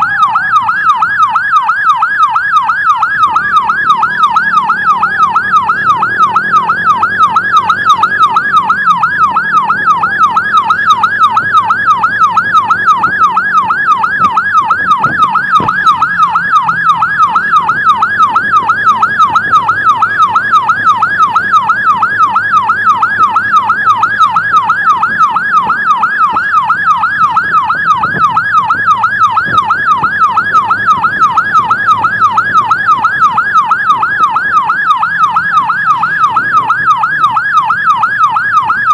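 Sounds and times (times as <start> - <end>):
emergency siren yelping: 0.0 - 38.9
lower siren tone gliding down: 0.0 - 38.9
road and engine rumble: 0.0 - 38.9.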